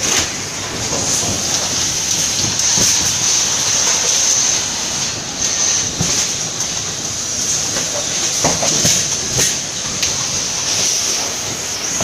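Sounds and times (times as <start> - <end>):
printer high hiss: 0.0 - 12.0.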